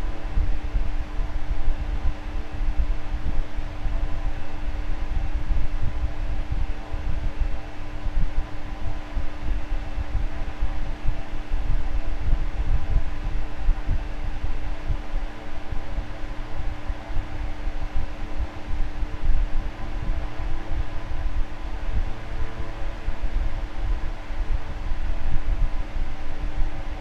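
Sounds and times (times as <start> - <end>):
electric fan running: 0.0 - 27.0.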